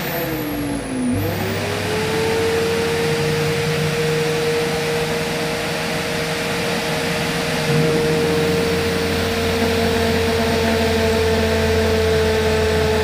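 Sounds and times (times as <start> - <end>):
electric drill whining: 0.0 - 13.0.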